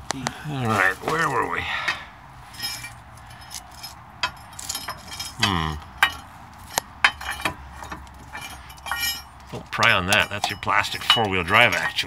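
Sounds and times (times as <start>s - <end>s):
hand tools clinking on steel: 0.2s - 12.0s.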